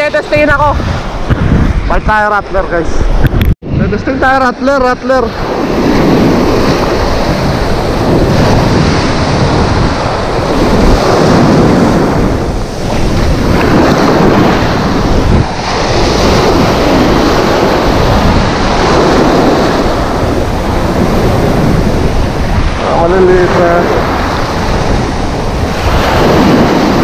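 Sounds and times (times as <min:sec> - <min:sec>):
surf breaking and washing: 0:00.0 - 0:27.0
wind buffeting microphone: 0:00.0 - 0:27.0.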